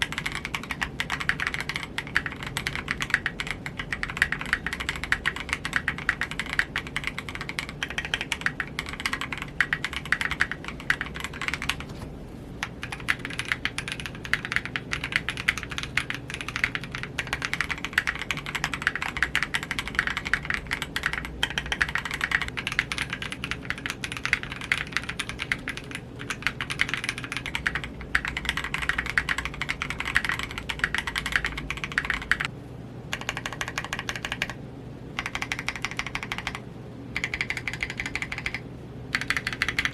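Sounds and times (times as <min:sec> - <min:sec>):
fast typing on mechanical keyboard: 0:00.0 - 0:12.0, 0:12.6 - 0:32.5, 0:33.1 - 0:34.6, 0:35.2 - 0:39.9.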